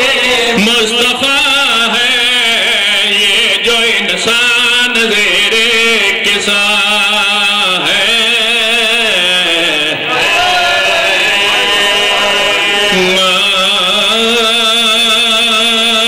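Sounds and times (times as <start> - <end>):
man chanting into microphone: 0.0 - 10.2, 11.1 - 16.0.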